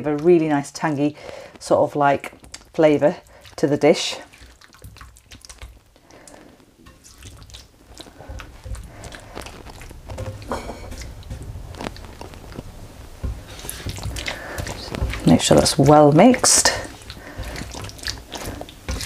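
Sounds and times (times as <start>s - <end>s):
wet squelches and scrapes: 0.0s - 19.0s
spatula stirring wet masala in pan: 0.1s - 19.0s.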